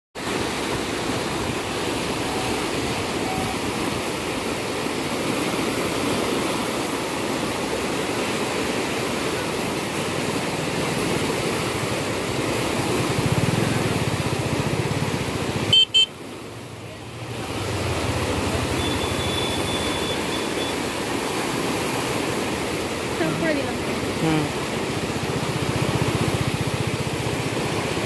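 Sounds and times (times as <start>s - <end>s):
river water rushing: 0.2s - 28.0s.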